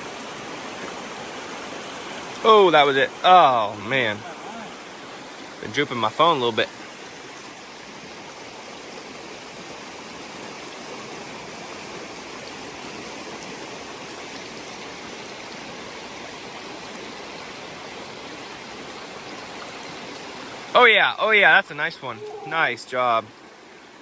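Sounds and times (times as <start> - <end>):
creek water running over rocks: 0.0 - 24.0.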